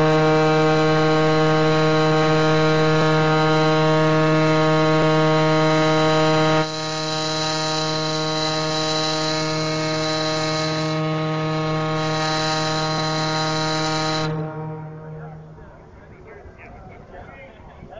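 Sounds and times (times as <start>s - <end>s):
steam whistle long low note: 0.0s - 15.9s.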